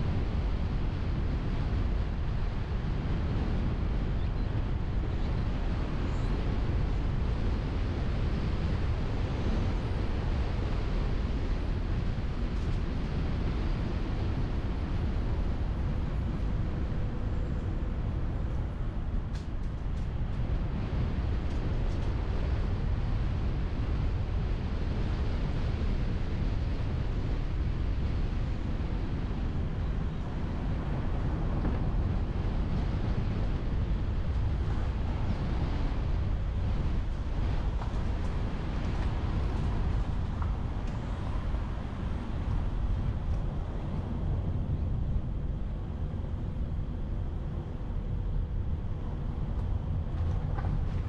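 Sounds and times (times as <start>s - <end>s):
car road and wind noise: 0.0s - 51.0s.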